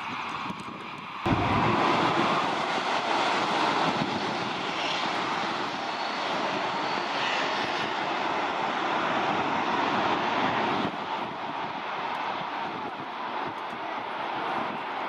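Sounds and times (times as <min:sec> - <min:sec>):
military jets taking off: 0:00.0 - 0:15.0.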